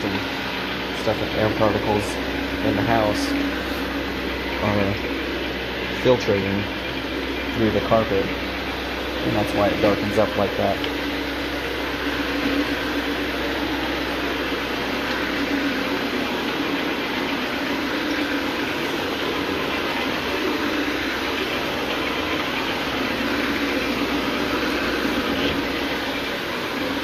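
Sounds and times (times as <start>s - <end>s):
carpet scrubber motor and brush whir: 0.0s - 27.0s
deep hum: 0.0s - 27.0s.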